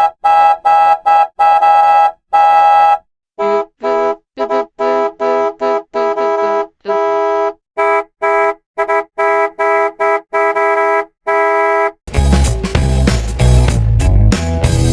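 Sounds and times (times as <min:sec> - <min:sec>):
multi-tone bus horn blasts: 0:00.0 - 0:12.0.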